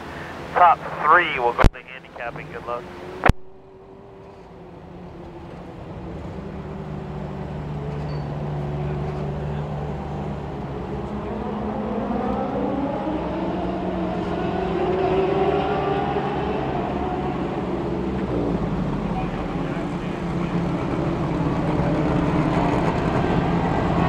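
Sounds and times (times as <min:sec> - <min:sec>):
race car engines running: 0:00.0 - 0:24.0.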